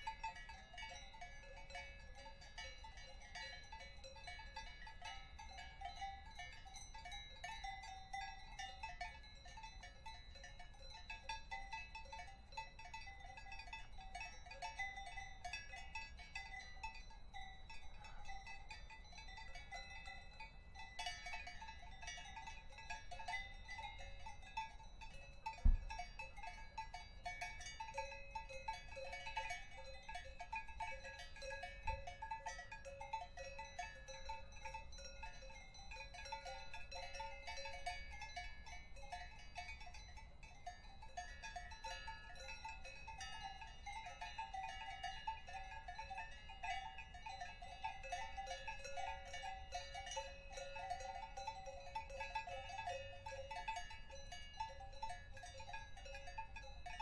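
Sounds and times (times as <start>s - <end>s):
cowbells clanking: 0.0s - 57.0s.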